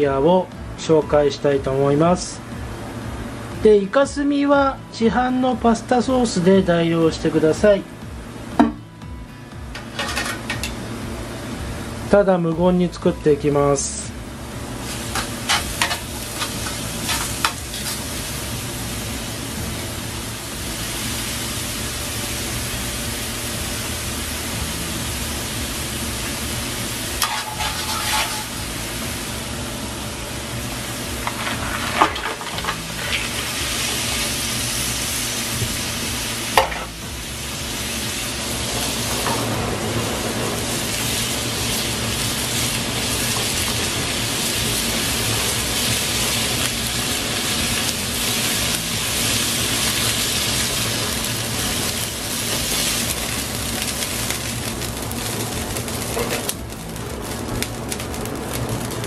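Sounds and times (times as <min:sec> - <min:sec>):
vegetables sizzling in oil: 0:00.0 - 0:59.0.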